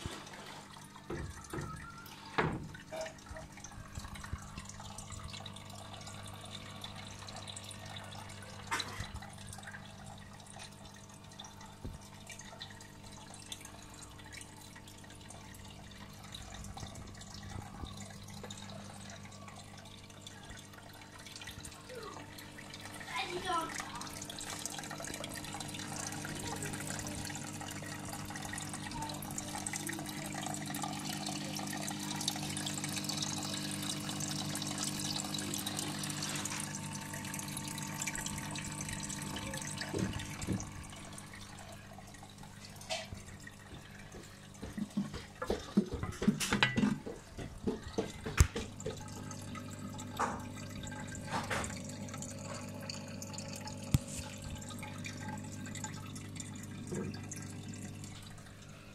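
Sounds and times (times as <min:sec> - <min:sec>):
water trickling and splashing: 0:00.0 - 0:58.9.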